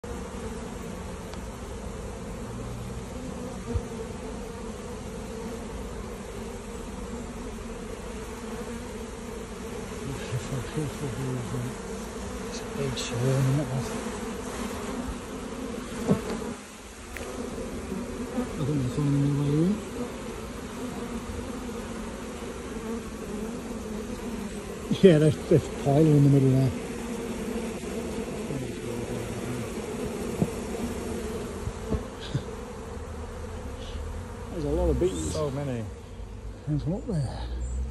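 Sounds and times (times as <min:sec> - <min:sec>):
bee swarm humming: 0:00.0 - 0:37.9
individual bees buzzing past: 0:00.0 - 0:37.9.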